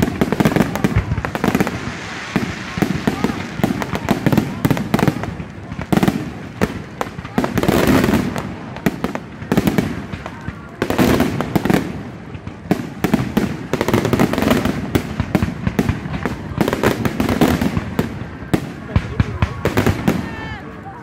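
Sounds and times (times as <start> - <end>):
continuous rumble: 0.0 - 21.0
fireworks bangs: 0.0 - 21.0.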